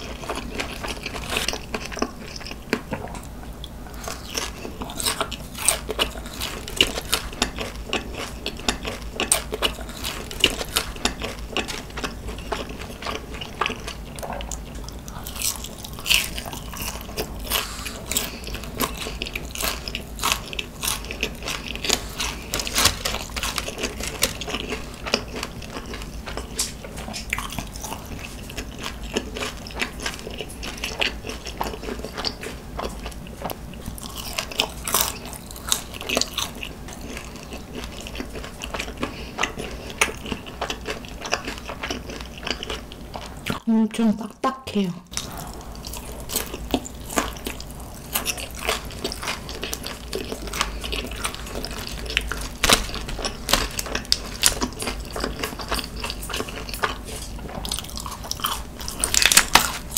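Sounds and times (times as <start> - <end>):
person chewing crunchy chicken: 0.0 - 43.7, 45.1 - 59.9.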